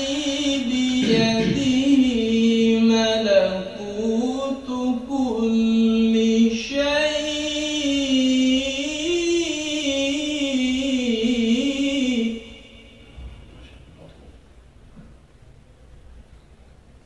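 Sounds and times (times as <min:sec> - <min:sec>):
man chanting melodically: 0:00.0 - 0:13.7.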